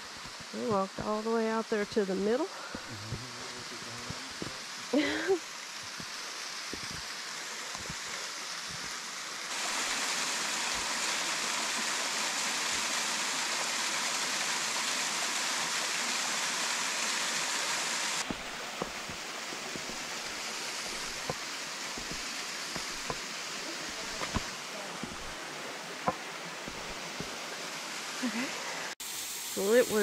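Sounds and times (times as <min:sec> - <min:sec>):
waterfall rushing: 0:02.8 - 0:30.0.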